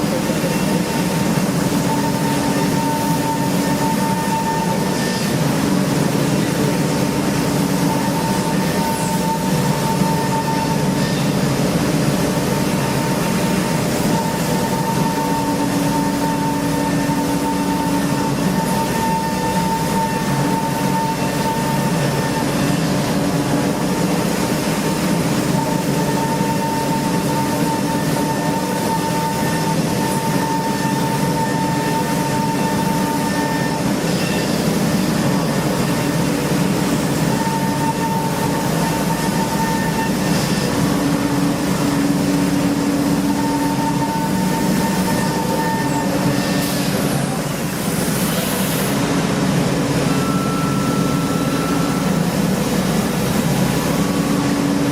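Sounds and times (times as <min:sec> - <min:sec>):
cnc machine high whine: 0:00.0 - 0:54.9
cnc machine low hum: 0:00.0 - 0:54.9.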